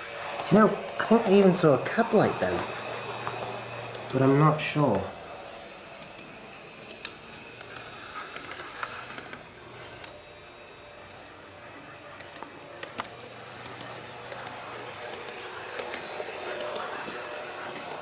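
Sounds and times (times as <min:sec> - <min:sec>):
model train motor running: 0:00.0 - 0:18.0.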